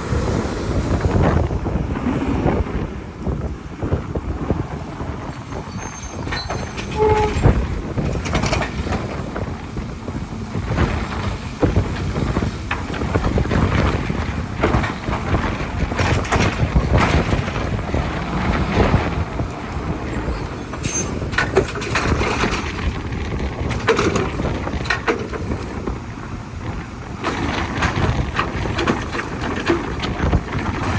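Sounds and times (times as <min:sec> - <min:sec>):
garbage truck engine rumbling: 0:00.0 - 0:30.9.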